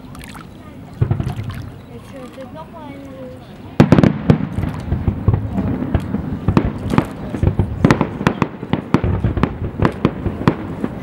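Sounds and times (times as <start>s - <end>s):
fireworks bursts and crackles: 0.6s - 11.0s.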